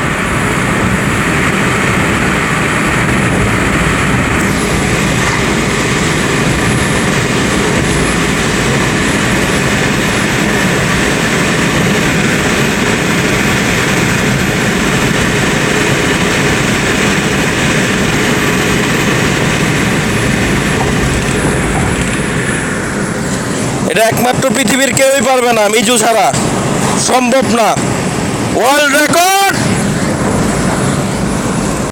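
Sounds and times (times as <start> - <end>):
car road and wind noise: 0.0 - 31.9.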